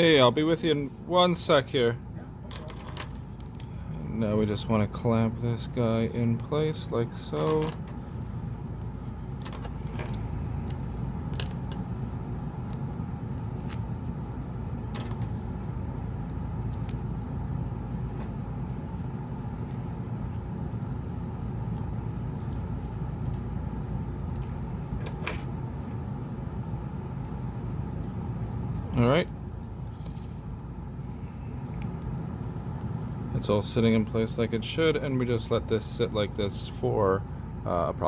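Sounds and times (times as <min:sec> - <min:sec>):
low background rumble: 0:00.0 - 0:38.0.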